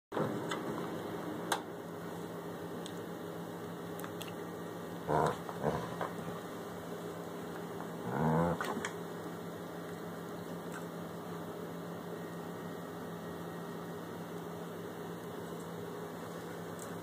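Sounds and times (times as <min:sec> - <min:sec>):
low electrical hum: 0:00.2 - 0:17.0.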